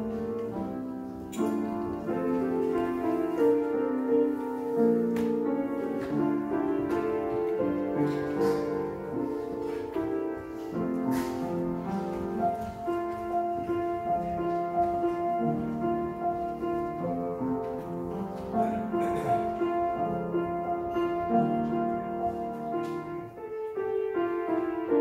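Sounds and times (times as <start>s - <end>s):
slow instrumental keyboard music: 0.0s - 25.0s.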